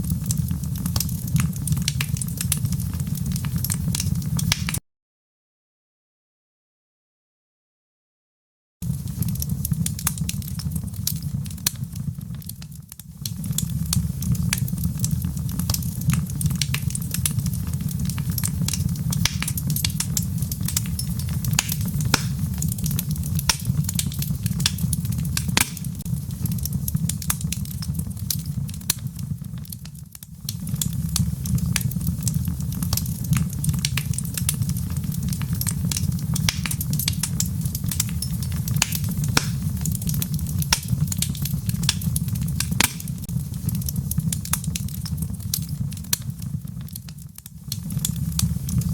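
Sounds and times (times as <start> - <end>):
wood fire crackling and popping: 0.0 - 4.8, 8.8 - 48.9.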